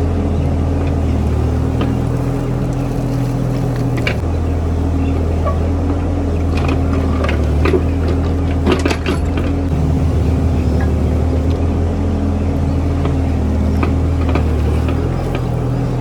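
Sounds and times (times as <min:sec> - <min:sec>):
small earthmover engine running: 0:00.0 - 0:16.0.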